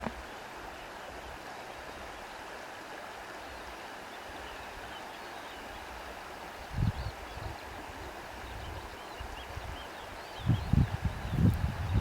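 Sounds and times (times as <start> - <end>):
wind blowing through grass: 0.0 - 12.0.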